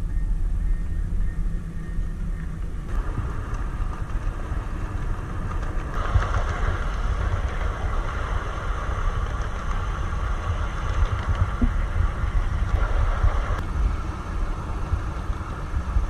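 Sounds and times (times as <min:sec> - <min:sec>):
ride-on train rumbling: 0:00.0 - 0:16.0
rushing rolling noise: 0:02.5 - 0:16.0.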